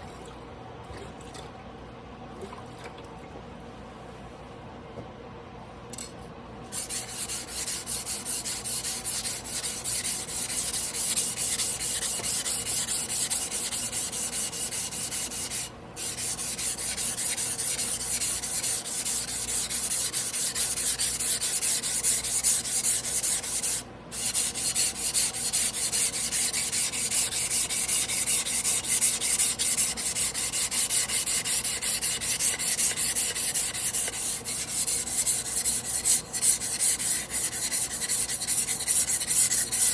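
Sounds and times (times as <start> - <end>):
blade rasping on whetstone: 6.8 - 39.9.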